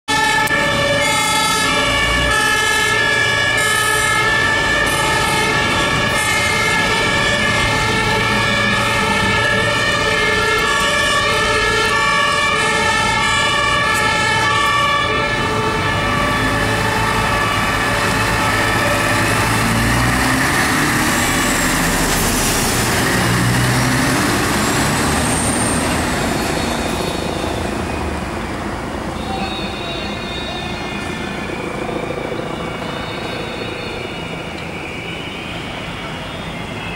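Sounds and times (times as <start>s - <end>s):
traffic noise: 0.1s - 36.9s
truck engine: 0.1s - 36.9s
two-tone emergency siren: 0.1s - 36.9s.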